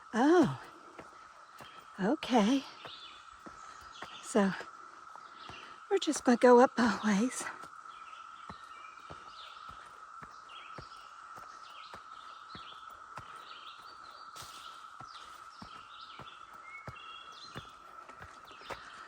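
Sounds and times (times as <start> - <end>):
birds chirping: 0.0 - 19.0
cicada chorus drone: 0.0 - 19.0
footsteps on trail: 0.0 - 19.0.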